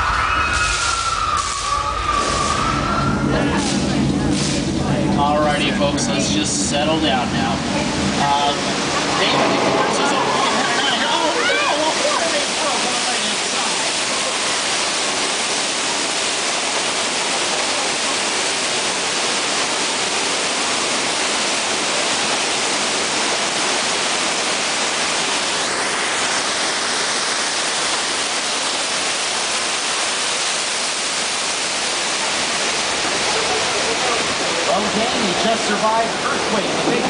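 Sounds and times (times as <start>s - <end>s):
water cascading rush: 0.0s - 37.0s.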